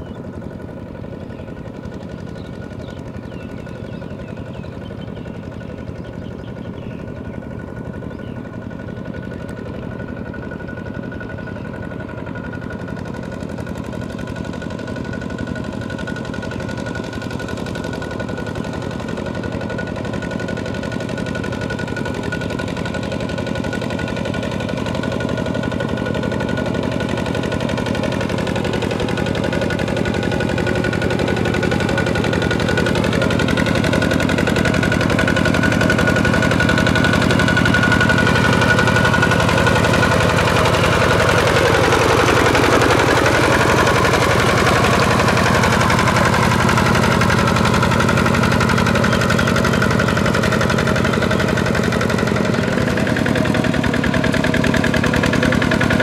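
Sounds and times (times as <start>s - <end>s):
diesel tractor engine chugging: 0.0s - 56.0s.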